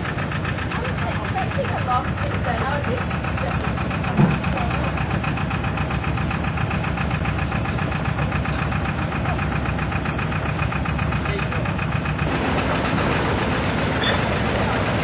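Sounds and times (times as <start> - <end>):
diesel engine knocking: 0.0 - 15.0.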